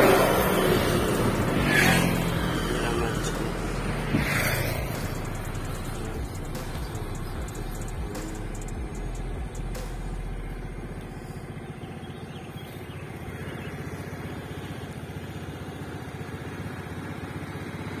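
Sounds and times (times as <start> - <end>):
scooter engine idling: 0.0 - 18.0.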